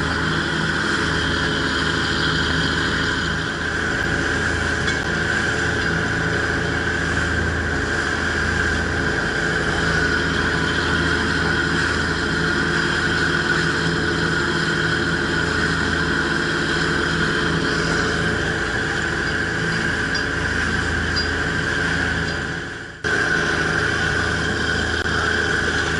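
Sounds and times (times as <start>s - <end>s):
boat engine droning: 0.0s - 25.9s
rushing water noise: 0.0s - 25.9s.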